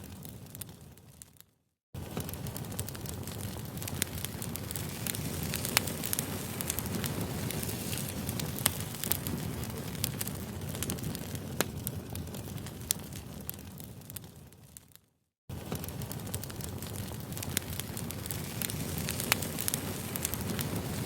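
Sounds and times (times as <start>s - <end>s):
low rush of flame: 2.0s - 14.8s, 15.5s - 21.0s
wood crackling: 2.0s - 21.0s.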